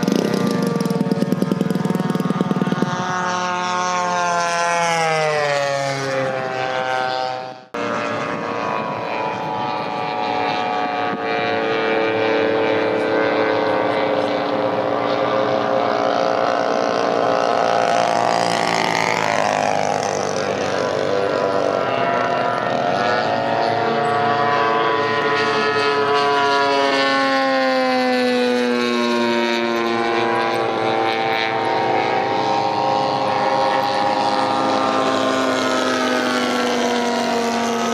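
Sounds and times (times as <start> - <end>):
model aircraft engine flying past: 0.0 - 37.9.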